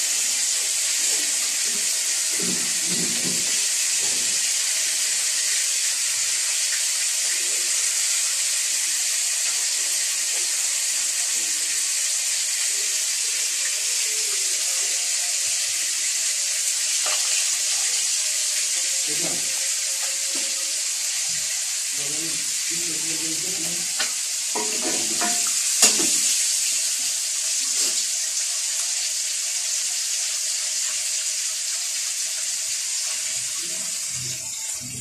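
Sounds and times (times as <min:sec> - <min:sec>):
steady hiss: 0:00.0 - 0:35.0.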